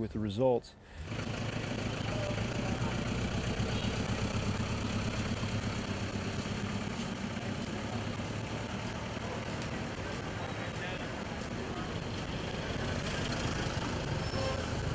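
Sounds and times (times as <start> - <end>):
pickup truck diesel engine: 1.0 - 14.9.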